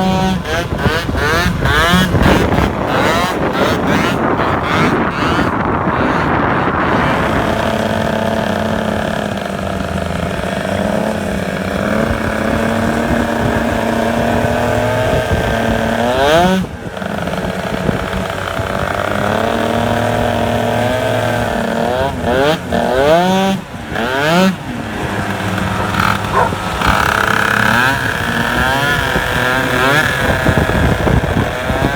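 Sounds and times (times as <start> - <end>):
two-stroke scooter engine revving: 0.0 - 31.9.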